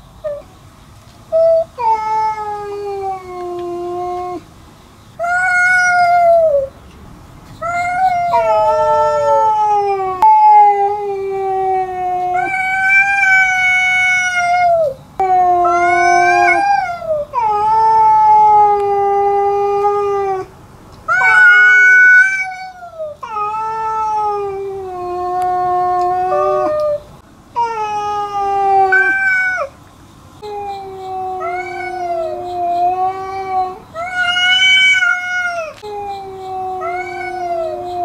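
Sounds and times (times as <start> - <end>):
cats yowling: 1.4 - 4.5, 5.2 - 6.7, 7.6 - 20.5, 21.1 - 29.8, 30.4 - 38.0.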